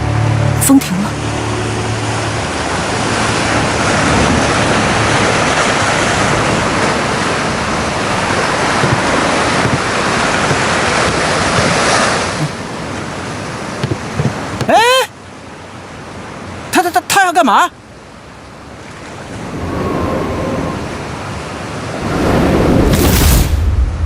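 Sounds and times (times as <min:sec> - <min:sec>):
sea waves and surf: 0:00.0 - 0:24.0.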